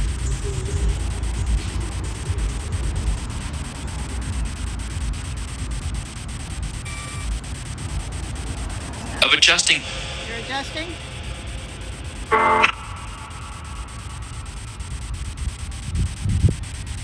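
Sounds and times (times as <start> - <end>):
faint rapid ticks: 0.0 - 9.2, 10.8 - 17.0
hissing static: 0.0 - 17.0
low rumble: 0.0 - 17.0.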